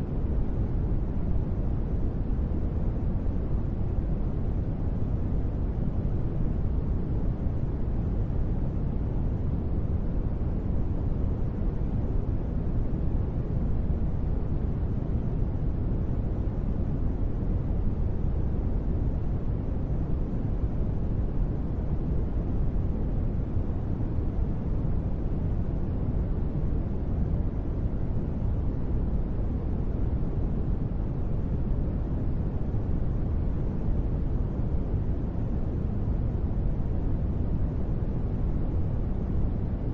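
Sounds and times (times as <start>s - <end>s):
rain-style white noise: 0.0s - 39.9s.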